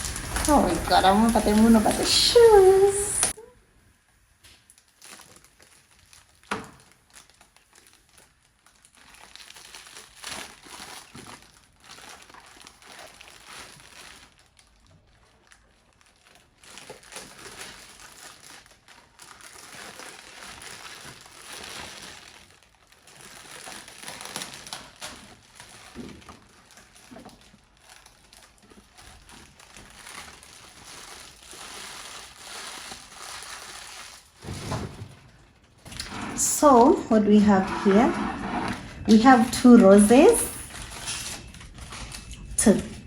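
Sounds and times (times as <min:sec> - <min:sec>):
gift wrapping crinkling: 0:00.0 - 0:03.4, 0:04.6 - 0:34.6, 0:35.3 - 0:43.0.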